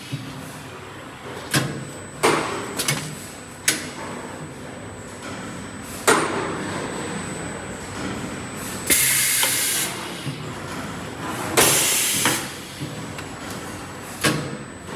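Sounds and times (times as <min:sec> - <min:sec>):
machine running noise: 0:00.0 - 0:14.9.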